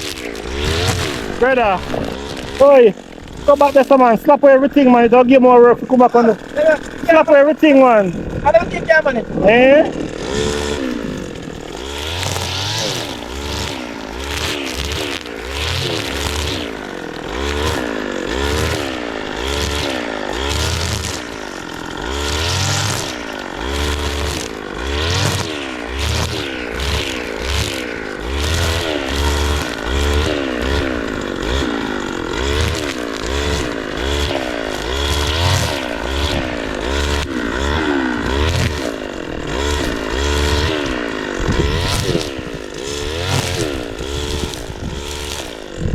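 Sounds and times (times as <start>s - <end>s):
brush cutter engine revving: 0.0s - 45.9s.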